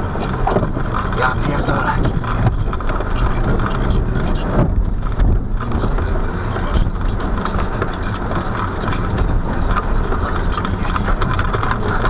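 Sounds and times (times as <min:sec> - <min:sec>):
car knocking over rough ground: 0:00.0 - 0:12.0
engine and tyres rumbling: 0:00.0 - 0:12.0.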